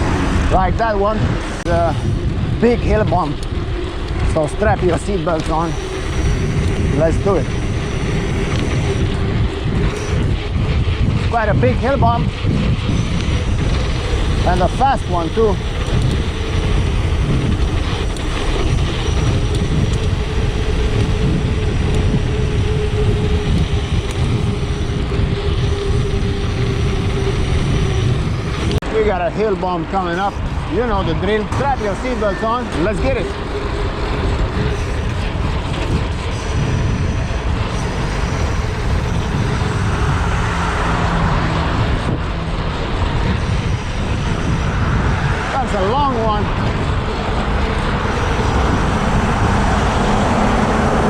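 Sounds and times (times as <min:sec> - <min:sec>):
bike tyre roar: 0:00.0 - 0:51.0
passing traffic: 0:00.0 - 0:51.0
road noise from bicycle: 0:00.0 - 0:51.0
steady hum: 0:00.0 - 0:51.0
wind buffeting microphone: 0:00.0 - 0:51.0.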